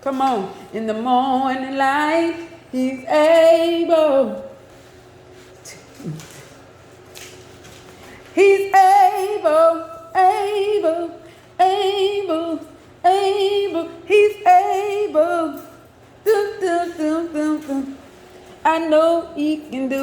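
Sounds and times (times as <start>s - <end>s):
woman singing with vibrato: 0.0s - 4.6s, 8.3s - 20.0s.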